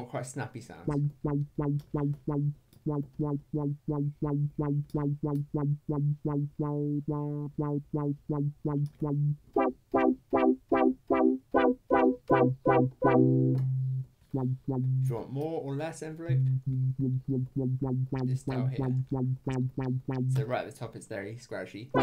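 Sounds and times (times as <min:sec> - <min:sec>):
squelchy resonant synth stabs: 0:00.9 - 0:15.3, 0:16.3 - 0:20.6.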